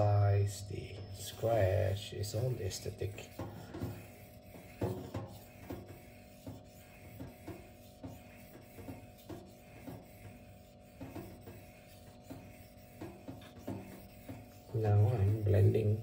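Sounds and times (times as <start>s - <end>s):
knife rasping on waterstone: 2.3s - 16.0s.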